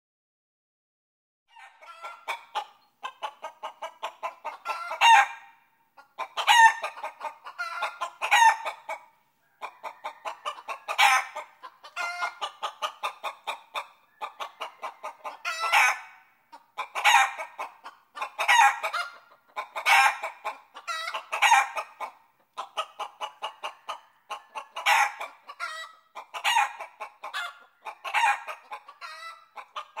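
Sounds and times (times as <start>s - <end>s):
chicken clucking and squawking: 1.5s - 30.0s.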